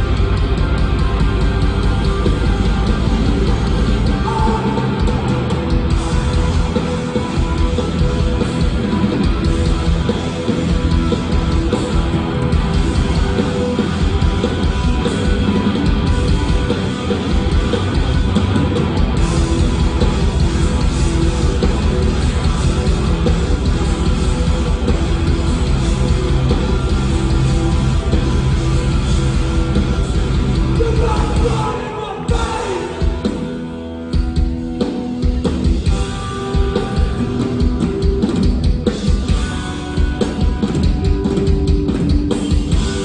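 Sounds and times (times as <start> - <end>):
punk band playing live: 0.0 - 43.0.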